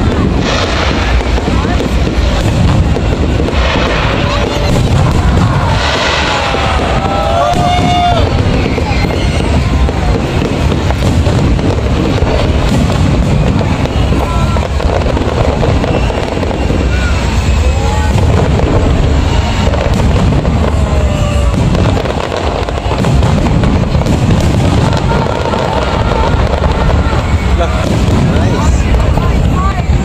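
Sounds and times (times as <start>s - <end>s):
firework shells booming: 0.0s - 30.0s.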